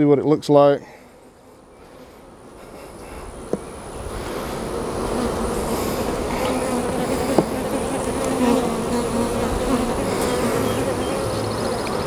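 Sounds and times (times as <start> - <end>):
bees buzzing: 0.8 - 12.0.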